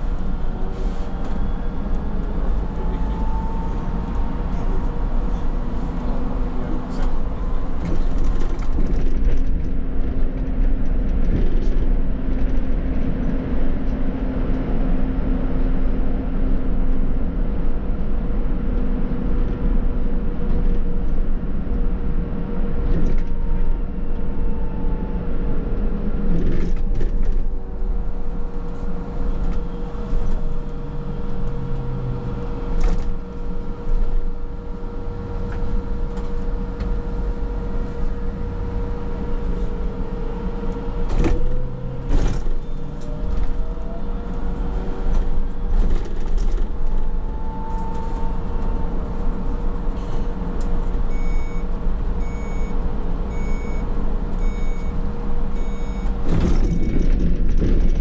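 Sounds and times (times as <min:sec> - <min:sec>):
road and body rumble: 0:00.0 - 0:58.0.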